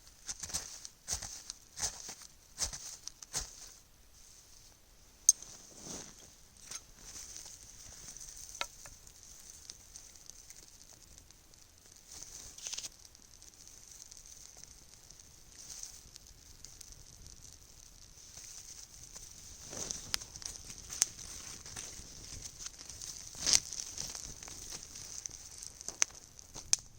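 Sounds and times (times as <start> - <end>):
campfire hiss: 0.0 - 26.9
campfire crackling and popping: 5.2 - 26.9.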